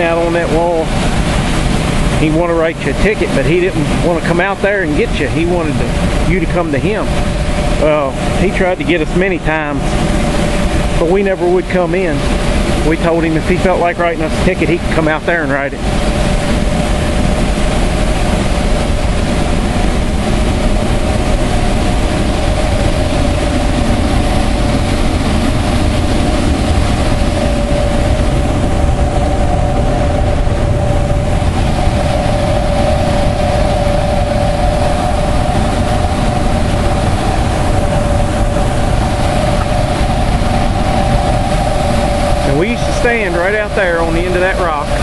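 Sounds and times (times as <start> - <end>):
steady low hum: 0.0 - 45.0
water roaring over dam spillway: 0.0 - 45.0.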